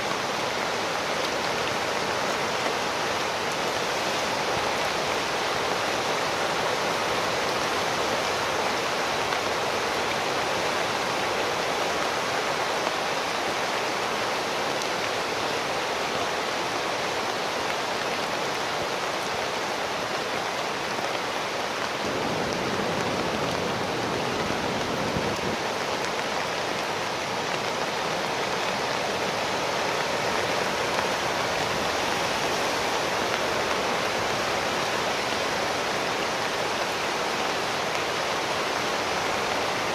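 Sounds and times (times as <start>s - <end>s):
floodwater rushing down a channel: 0.0s - 39.9s.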